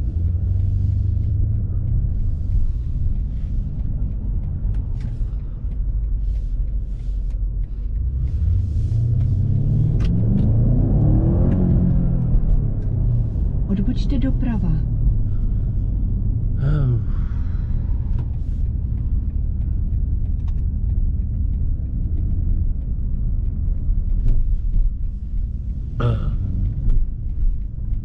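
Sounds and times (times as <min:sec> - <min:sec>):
car engine low rumble: 0:00.0 - 0:28.0
road noise: 0:00.0 - 0:28.0.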